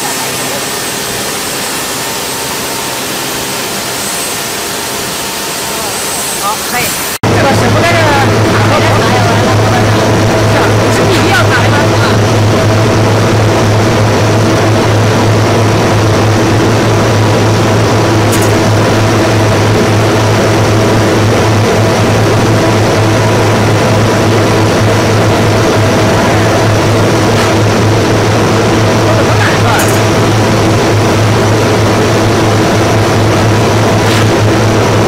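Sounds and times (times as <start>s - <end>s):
heavy factory machinery drone: 0.0s - 35.0s.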